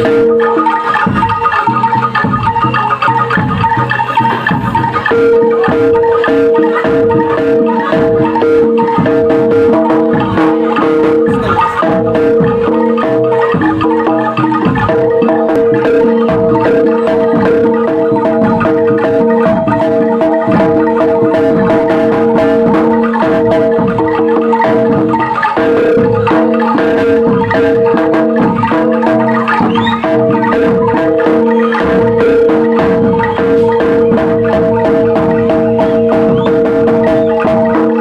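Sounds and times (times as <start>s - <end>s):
drum strokes: 0.0s - 38.0s
gamelan-style mallet percussion music: 0.0s - 38.0s.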